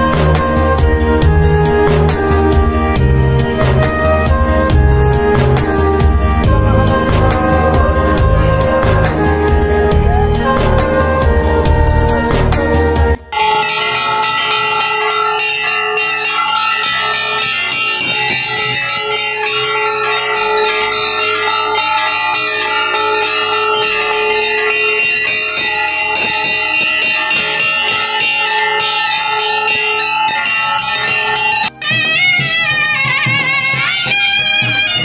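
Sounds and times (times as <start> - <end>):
temple bells ringing: 0.0 - 35.0.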